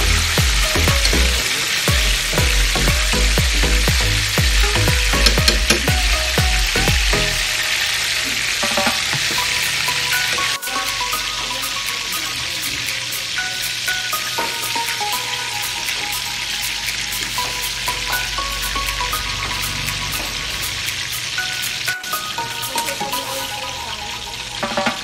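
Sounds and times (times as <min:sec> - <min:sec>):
sauce sizzling in a wok: 0:00.0 - 0:25.0.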